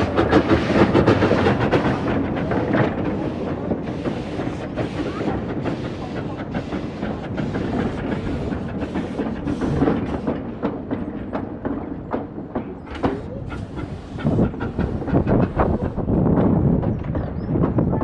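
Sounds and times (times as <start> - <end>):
train rumble: 0.0 - 18.0
train wheels clattering: 0.0 - 18.0.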